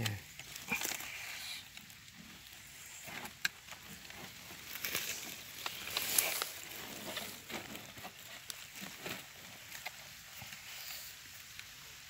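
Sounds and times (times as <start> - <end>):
rustling on dry leaves: 0.0 - 12.0.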